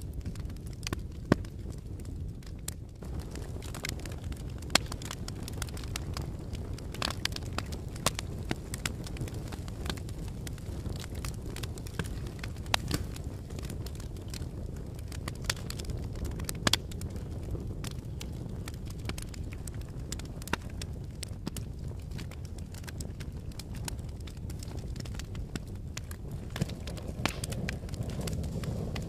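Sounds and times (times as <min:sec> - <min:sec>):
fire crackling and popping: 0:00.0 - 0:29.0
low fire rumble: 0:00.0 - 0:29.0.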